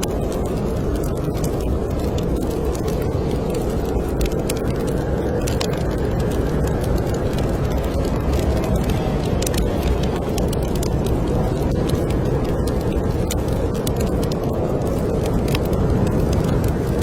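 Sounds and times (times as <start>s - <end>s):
fireplace fire crackling: 0.0s - 17.0s
snowstorm wind blowing: 0.0s - 17.0s.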